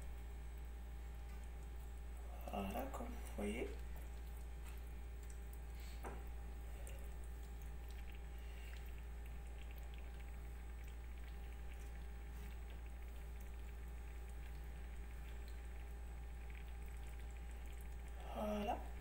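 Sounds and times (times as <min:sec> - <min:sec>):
sauce bubbling in a pot: 0:00.0 - 0:19.0
steady low hum: 0:00.0 - 0:19.0.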